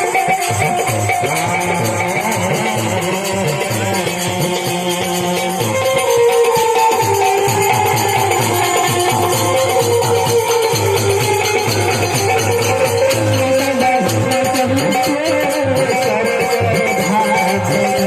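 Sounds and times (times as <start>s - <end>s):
drum beat: 0.0s - 18.0s
instrumental folk music: 0.0s - 18.0s
jingling percussion: 0.0s - 18.0s.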